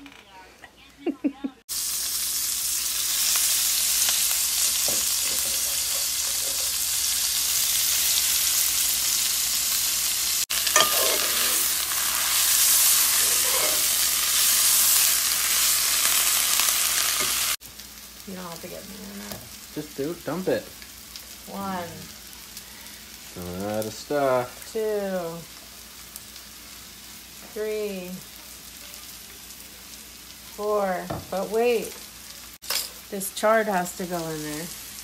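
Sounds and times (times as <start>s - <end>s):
leaves sizzling in hot pan: 1.7s - 35.0s.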